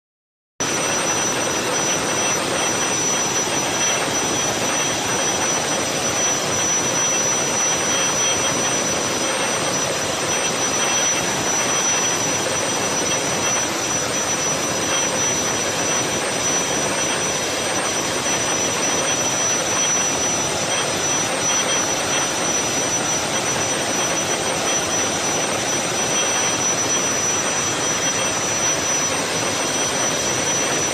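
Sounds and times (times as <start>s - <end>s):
thin high whine: 0.6s - 30.9s.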